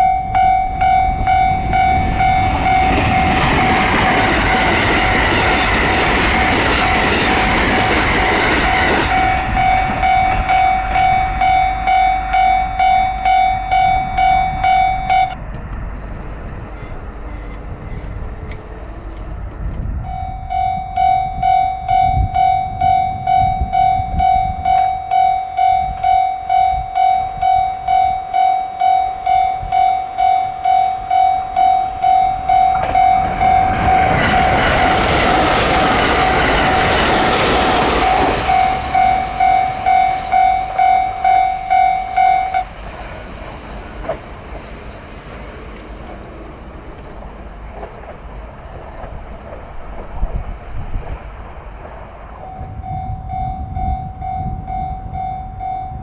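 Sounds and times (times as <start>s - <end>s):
level crossing alarm pulsing: 0.0s - 19.4s, 20.0s - 44.2s, 52.4s - 56.0s
train rumble: 0.0s - 56.0s.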